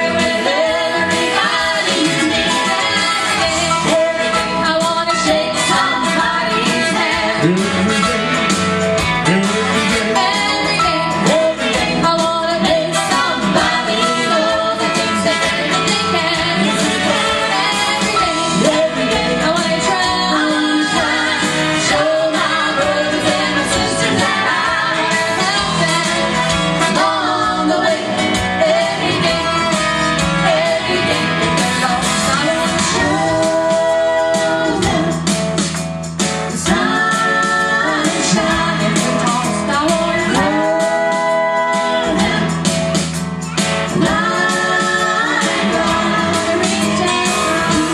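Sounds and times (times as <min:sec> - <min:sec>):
gospel group singing: 0:00.0 - 0:35.4, 0:36.5 - 0:47.9
instrumental accompaniment: 0:00.0 - 0:47.9.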